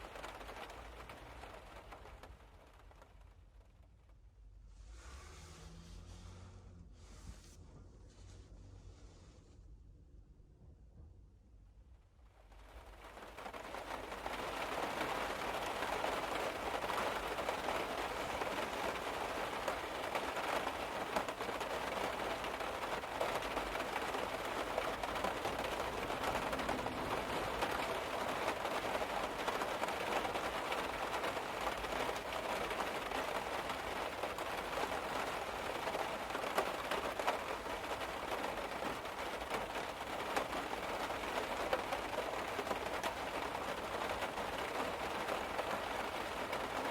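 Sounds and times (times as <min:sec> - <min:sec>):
rain pattering on a car roof: 0:00.0 - 0:05.1, 0:12.1 - 0:46.9.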